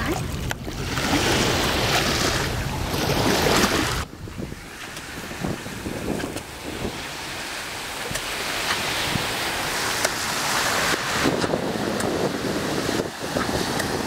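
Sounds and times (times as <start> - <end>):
small waves washing on sand: 0.0 - 14.0
wind on microphone: 0.0 - 14.0.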